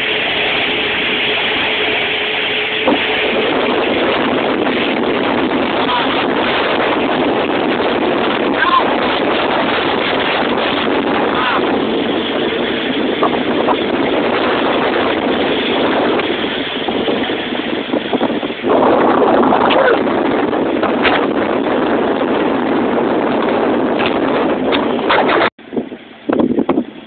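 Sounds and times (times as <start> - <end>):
distant jet engines rushing: 0.0 - 27.0.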